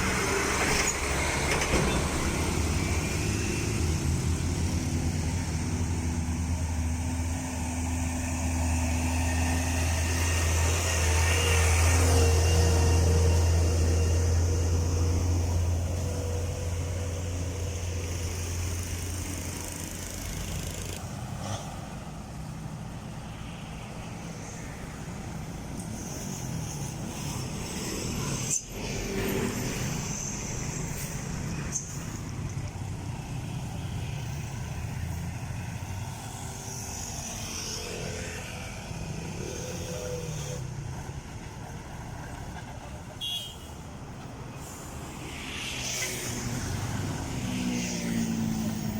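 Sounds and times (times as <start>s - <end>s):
traffic noise: 0.0s - 48.9s.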